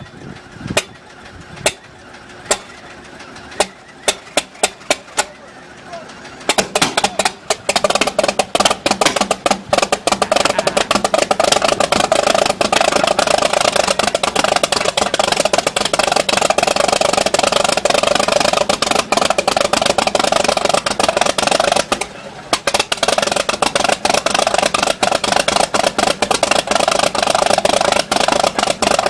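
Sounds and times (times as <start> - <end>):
aircraft engine running with pops: 0.0 - 29.0.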